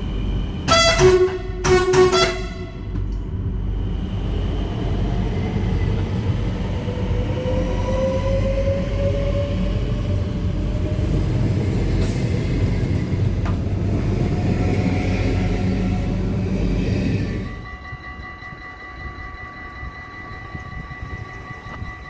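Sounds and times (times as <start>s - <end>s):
passenger train rumbling past: 0.0s - 22.0s.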